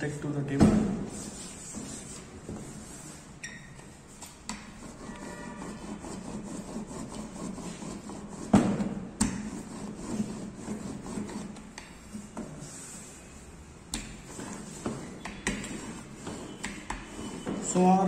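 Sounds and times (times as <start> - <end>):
rolling pin rubbing on dough: 1.0 - 3.4, 4.4 - 13.4, 14.0 - 18.0.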